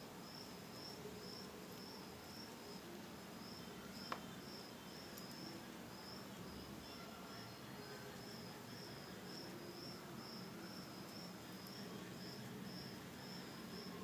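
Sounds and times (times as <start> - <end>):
cricket chirping: 0.2 - 2.8, 3.4 - 14.0.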